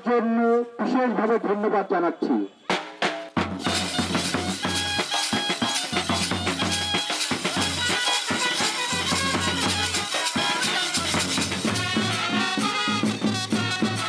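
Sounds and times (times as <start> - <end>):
trumpets playing lively tune: 2.2 - 14.0
drums steady beat: 2.7 - 14.0.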